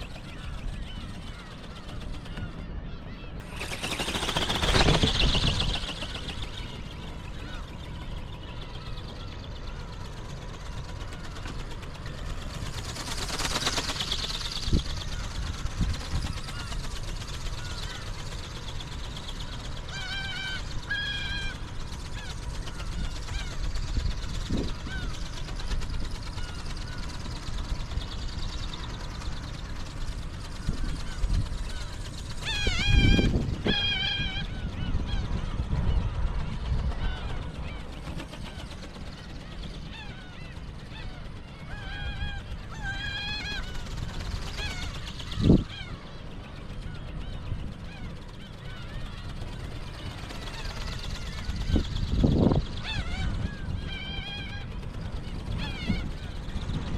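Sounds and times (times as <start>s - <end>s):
wind rumble on microphone: 0.0s - 10.0s, 10.6s - 56.9s
gulls calling: 0.0s - 56.9s.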